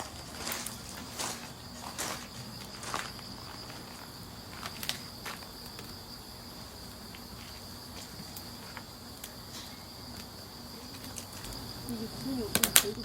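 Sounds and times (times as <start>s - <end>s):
campfire crackling: 0.0s - 13.0s
insect trill: 0.0s - 13.0s.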